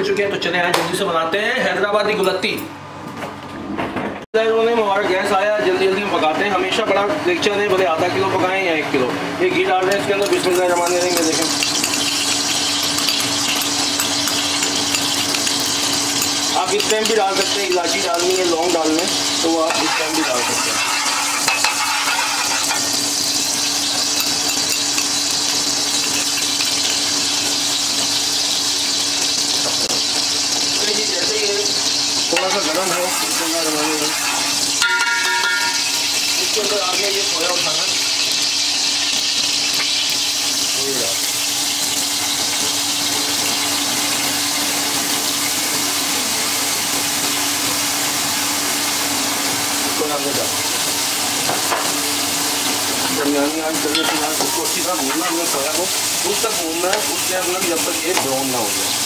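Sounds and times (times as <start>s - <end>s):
ghee sizzling in a pot: 9.6s - 59.0s.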